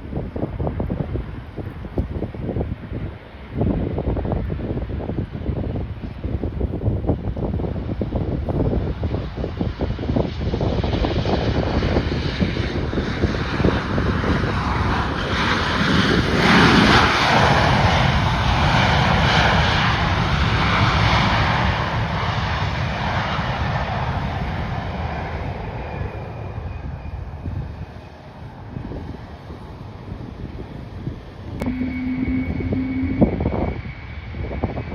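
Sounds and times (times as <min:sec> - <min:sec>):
aircraft engines passing: 0:00.0 - 0:34.9.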